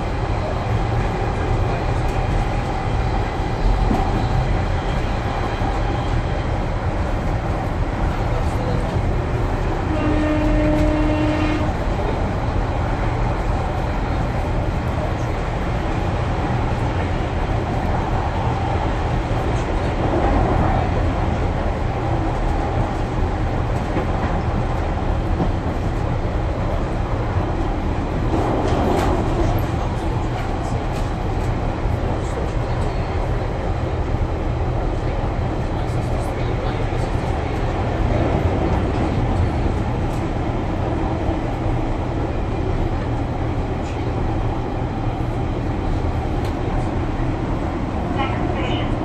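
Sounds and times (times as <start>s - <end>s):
train engine and wheels rumbling: 0.0s - 49.0s.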